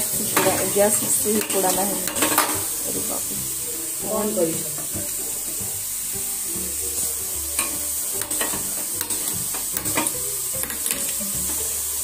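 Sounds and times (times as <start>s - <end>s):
gas burner flame hissing: 0.0s - 12.0s.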